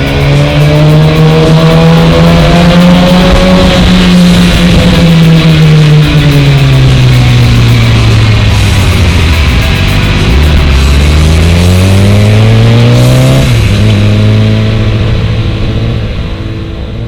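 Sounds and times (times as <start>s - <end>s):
racing engine passing at high revs: 0.0s - 7.6s, 8.2s - 15.2s
music: 0.0s - 17.0s.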